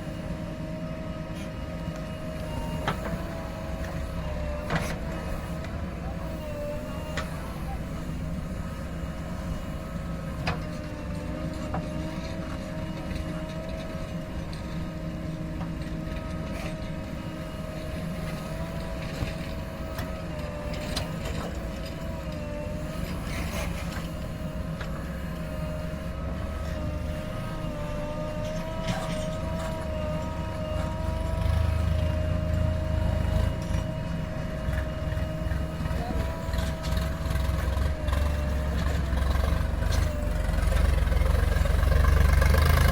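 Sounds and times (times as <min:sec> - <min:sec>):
backhoe diesel engine running: 0:00.0 - 0:42.9
constant whine: 0:00.0 - 0:42.9.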